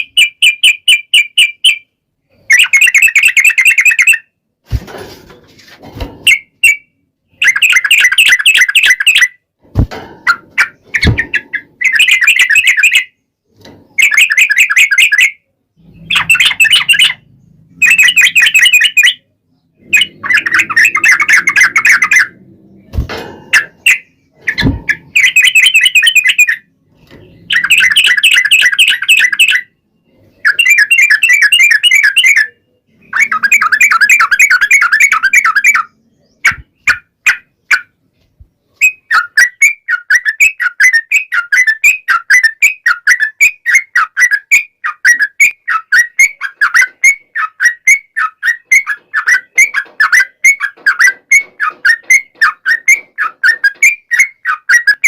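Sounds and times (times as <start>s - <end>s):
bird chirping notes: 0.0s - 4.4s, 6.2s - 9.4s, 10.2s - 55.0s
bird trilling song: 0.0s - 4.4s, 6.2s - 9.4s, 10.3s - 55.0s.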